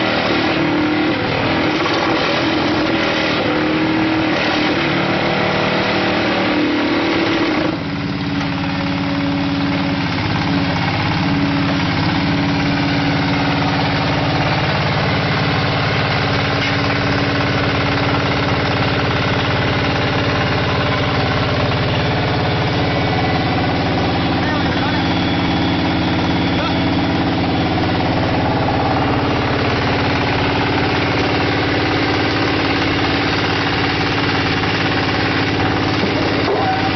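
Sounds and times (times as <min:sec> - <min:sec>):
small diesel engine running: 0:00.0 - 0:36.9.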